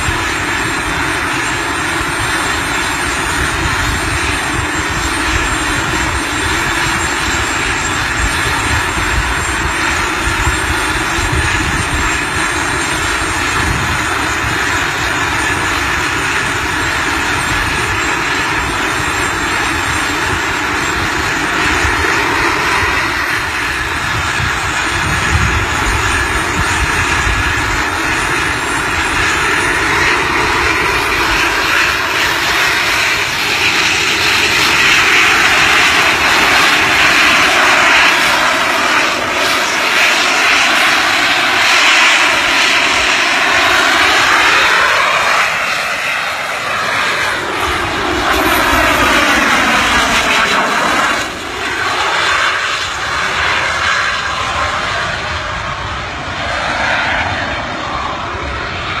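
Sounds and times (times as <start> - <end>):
jet engine roar: 0.0 - 59.0.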